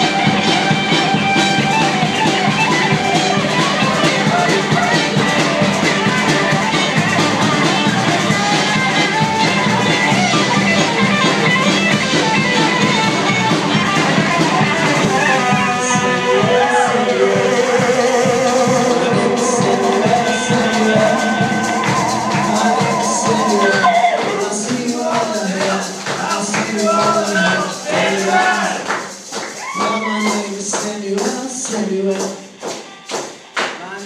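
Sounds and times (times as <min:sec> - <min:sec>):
bass: 0:00.0 - 0:34.0
drum kit: 0:00.0 - 0:34.0
electric guitar: 0:00.0 - 0:34.0.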